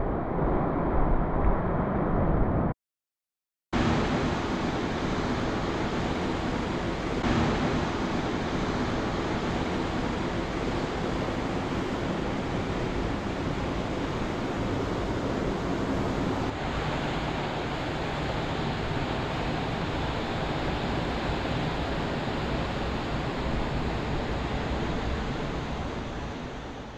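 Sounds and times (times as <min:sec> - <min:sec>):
wind: 0:00.0 - 0:02.7, 0:03.8 - 0:26.9.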